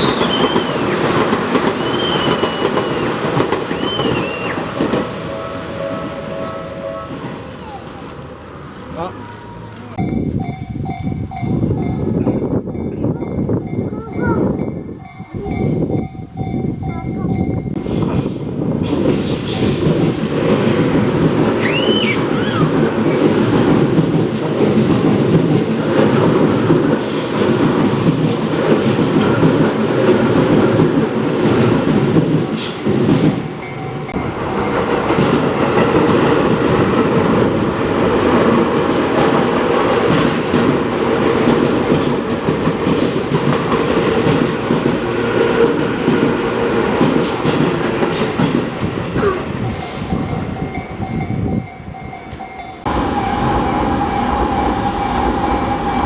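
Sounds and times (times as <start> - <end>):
electric trains passing: 0.0 - 56.0.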